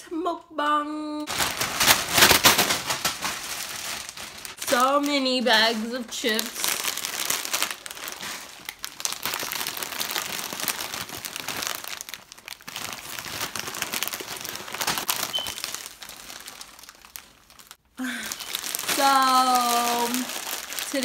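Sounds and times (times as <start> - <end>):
chip bags crinkling: 1.3 - 21.0.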